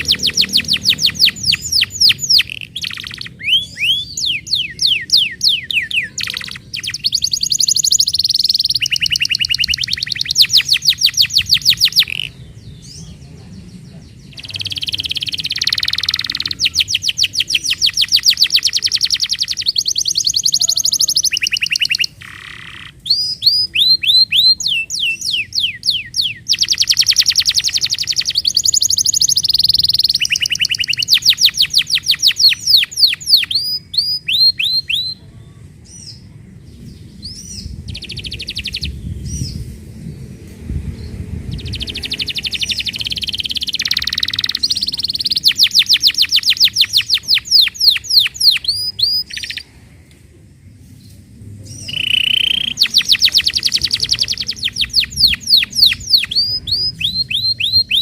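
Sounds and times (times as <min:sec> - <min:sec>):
canary singing in trills: 0:00.0 - 0:49.8, 0:51.6 - 0:58.0.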